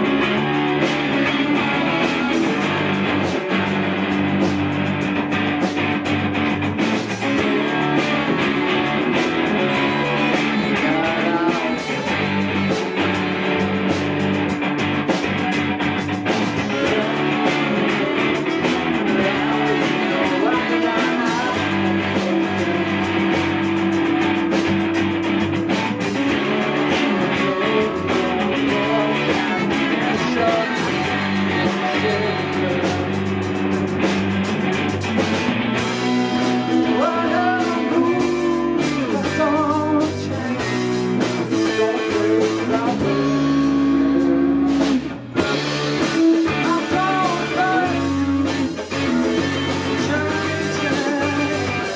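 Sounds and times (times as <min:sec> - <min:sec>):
guitar: 0:00.0 - 0:51.9
rock band playing: 0:00.0 - 0:51.9
steady bass notes: 0:00.0 - 0:51.9.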